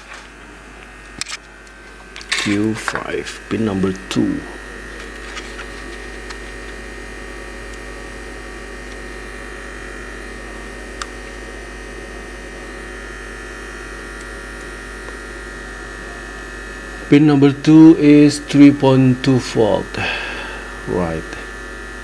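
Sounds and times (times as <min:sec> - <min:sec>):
electrical mains hum: 0:00.0 - 0:22.0
high-pitched whine: 0:00.0 - 0:22.0.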